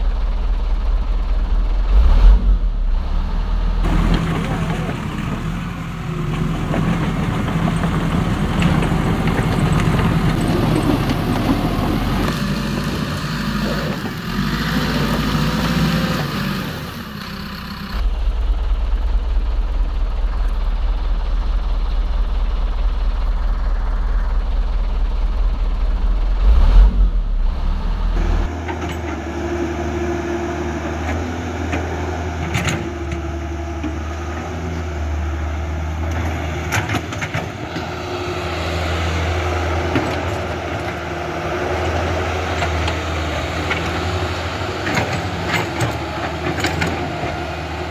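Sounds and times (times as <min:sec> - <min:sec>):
construction vehicle engines running: 0:00.0 - 0:47.9.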